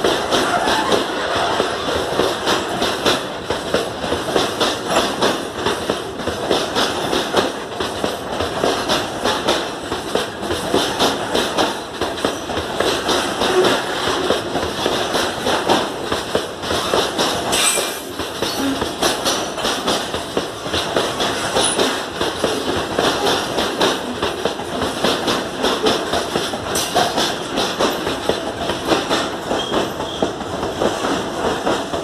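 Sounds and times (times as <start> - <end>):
wheels clattering over rail joints: 0.0 - 32.0.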